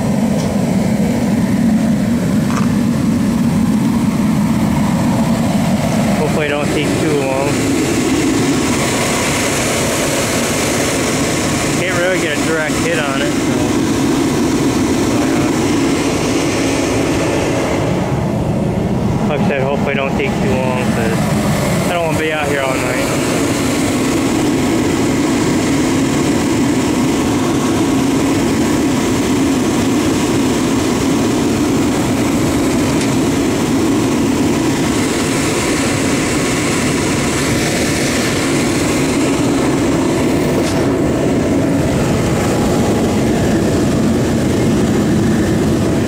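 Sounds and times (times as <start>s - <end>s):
forced-air heater roaring: 0.0s - 46.0s.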